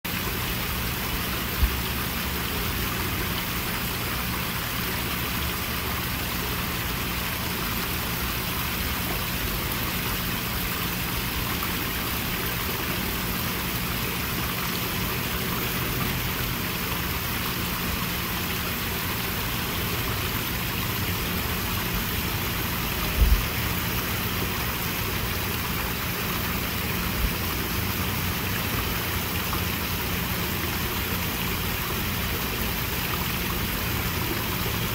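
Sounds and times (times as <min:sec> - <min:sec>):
small waterfall splashing: 0:00.0 - 0:34.9
low steady hum: 0:00.1 - 0:34.9.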